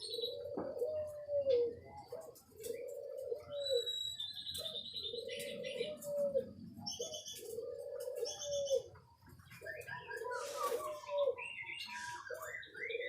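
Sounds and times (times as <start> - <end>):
bird chirping and trilling: 0.0 - 13.0
dove cooing: 0.0 - 13.0.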